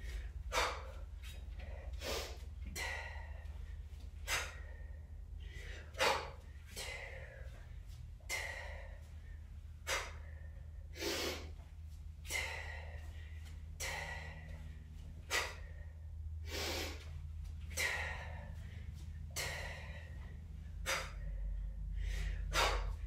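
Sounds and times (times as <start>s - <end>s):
woman breathing sharply: 0.0s - 23.0s.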